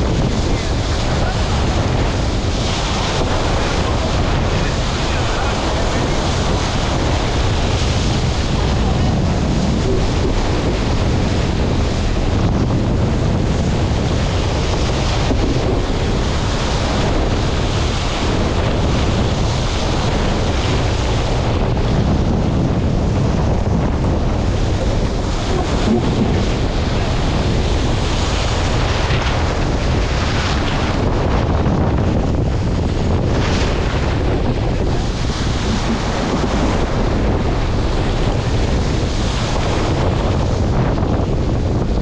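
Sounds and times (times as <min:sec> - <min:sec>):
water streaming past hull: 0:00.0 - 0:41.0
rough sea rushing: 0:00.0 - 0:42.0
wind buffeting microphone: 0:00.0 - 0:42.0.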